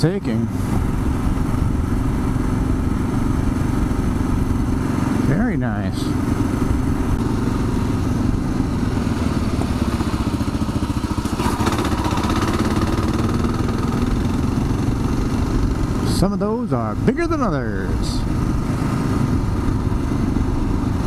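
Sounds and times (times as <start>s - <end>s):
motorcycle engine running: 0.0s - 21.0s
road noise: 0.0s - 21.0s.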